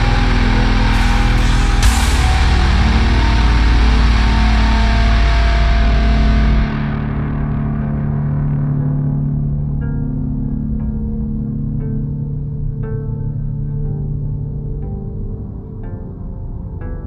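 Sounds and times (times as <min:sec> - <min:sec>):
heavy metal music: 0:00.0 - 0:17.0
sustained drone: 0:00.0 - 0:17.0.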